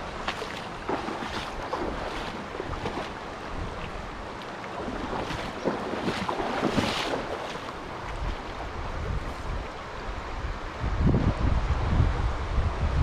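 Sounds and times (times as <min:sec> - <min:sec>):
river rushing over riffle: 0:00.0 - 0:10.7
wind buffeting microphone: 0:00.0 - 0:13.0.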